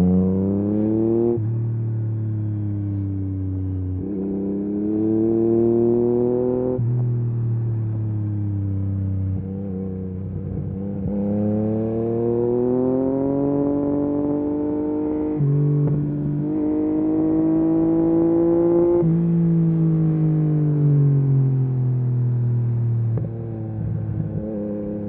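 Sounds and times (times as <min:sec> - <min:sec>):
motorcycle engine revving: 0:00.0 - 0:01.7, 0:03.7 - 0:21.5, 0:22.3 - 0:25.0.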